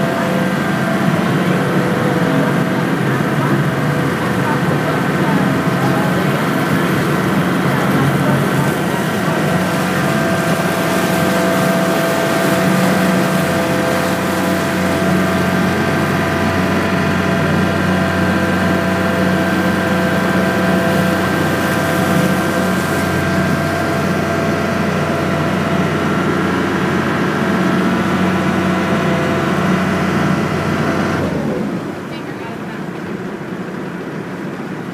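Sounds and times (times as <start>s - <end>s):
boat engine droning: 0.0s - 34.9s
water rushing past hull: 0.0s - 34.9s.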